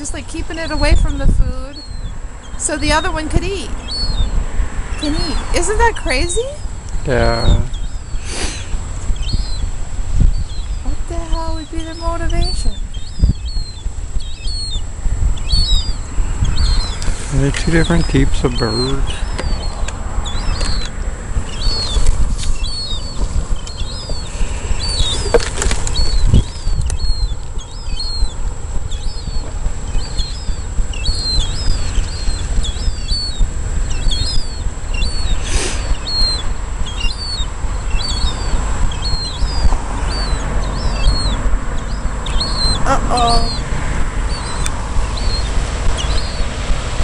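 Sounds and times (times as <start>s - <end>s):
low outdoor rumble: 0.0s - 47.0s
small bird chirping: 0.0s - 47.0s.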